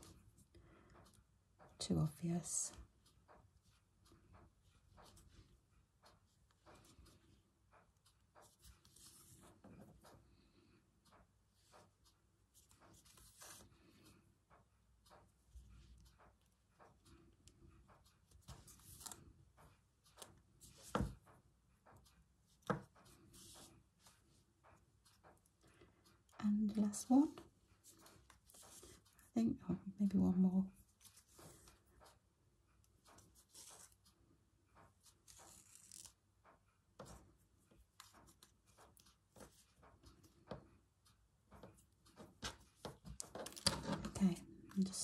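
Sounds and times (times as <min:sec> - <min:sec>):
needle and thread through fabric: 0:00.0 - 0:45.0.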